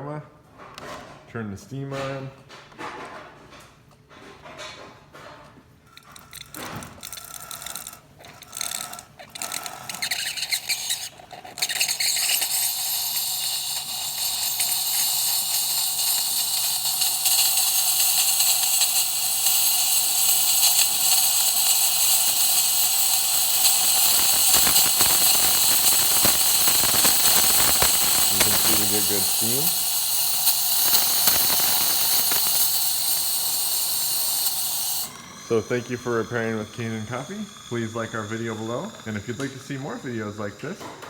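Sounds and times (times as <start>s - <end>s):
steam wand sputtering and hissing: 6.0s - 41.0s.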